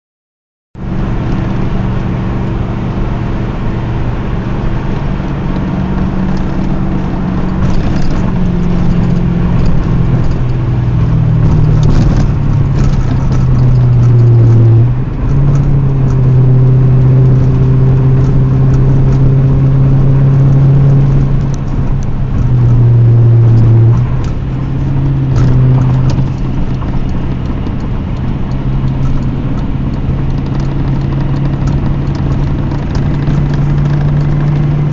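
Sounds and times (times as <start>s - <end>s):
car engine revving: 0.8s - 34.9s.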